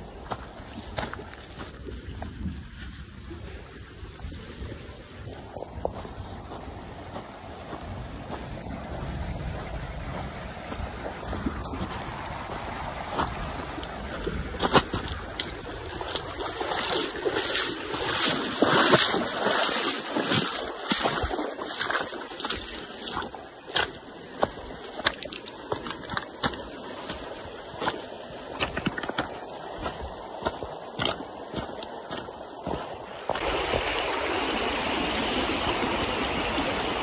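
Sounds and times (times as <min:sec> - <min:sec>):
footsteps splashing through creek: 0:00.0 - 0:37.0
water rushing: 0:00.0 - 0:37.0.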